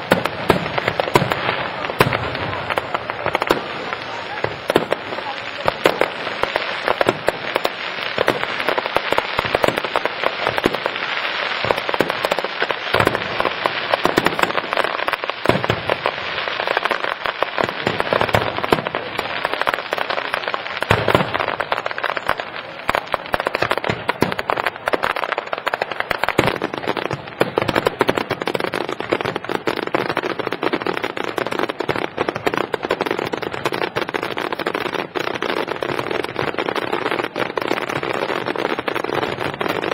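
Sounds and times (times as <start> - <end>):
fireworks crackling and popping: 0.0 - 39.9
heavy firework bangs: 0.0 - 39.9.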